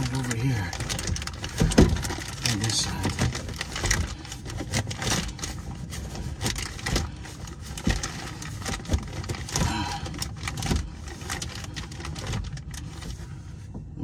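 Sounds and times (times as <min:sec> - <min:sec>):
plastic bag crinkling: 0:00.0 - 0:13.6.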